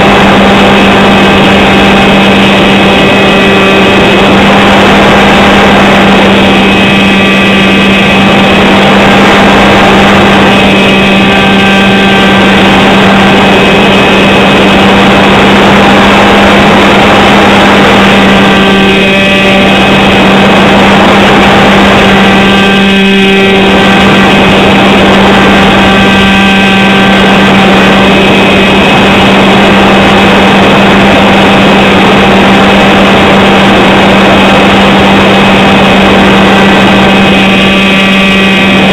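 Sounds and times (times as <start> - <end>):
model airplane motor drone: 0.0 - 38.9
rushing air noise: 0.0 - 38.9.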